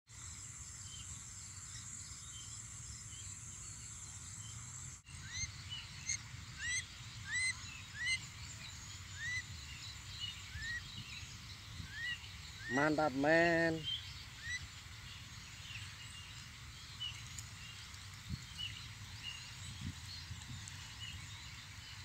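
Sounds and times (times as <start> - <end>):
bird chirping: 0.1 - 22.0.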